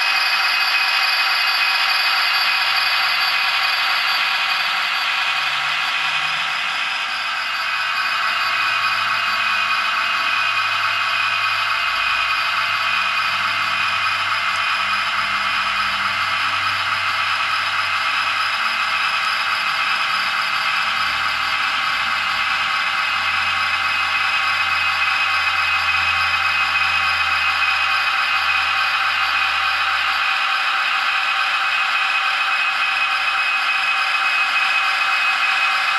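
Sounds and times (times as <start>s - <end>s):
diesel engine sound from small speaker: 0.0s - 35.9s.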